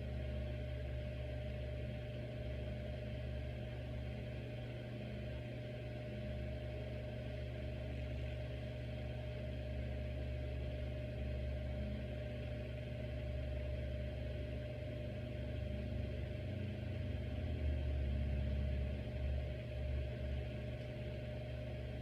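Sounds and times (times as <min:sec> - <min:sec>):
ceiling fan motor hum: 0:00.0 - 0:22.0.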